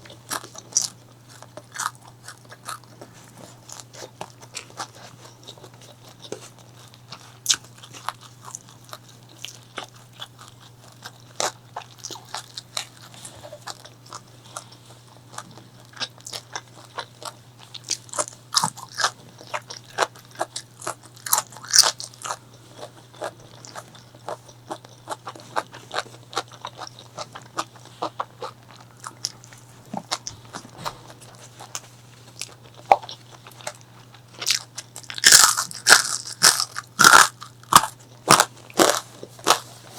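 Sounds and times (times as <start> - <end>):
chewing crispy food: 0.0 - 39.9
faint low hum: 0.0 - 39.9.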